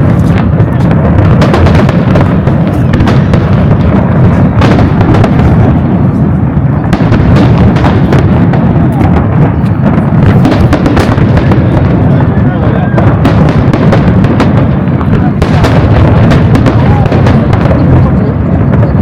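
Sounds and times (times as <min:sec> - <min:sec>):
fireworks booming: 0:00.0 - 0:19.0
fireworks cracks and pops: 0:00.0 - 0:19.0.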